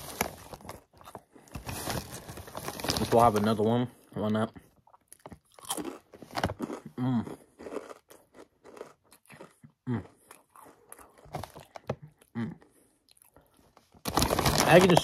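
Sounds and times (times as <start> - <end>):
crunching chips: 0.0 - 3.7, 5.2 - 13.4, 14.0 - 15.0.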